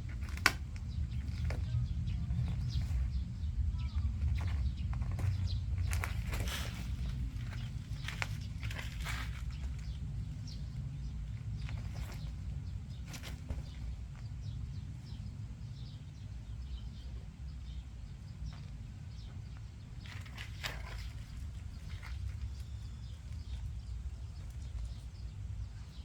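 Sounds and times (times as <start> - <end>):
kittens scratching umbrella fabric: 0.0 - 26.0
low outdoor rumble: 0.0 - 26.0.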